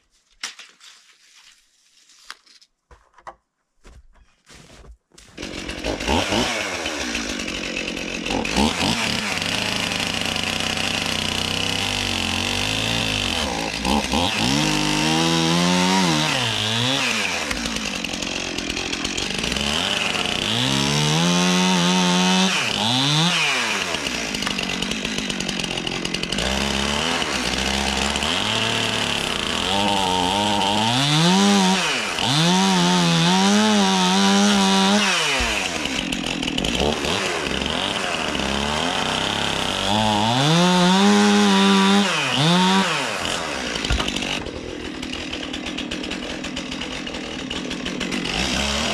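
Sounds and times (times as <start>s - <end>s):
chainsaw cutting wood: 5.2s - 48.9s.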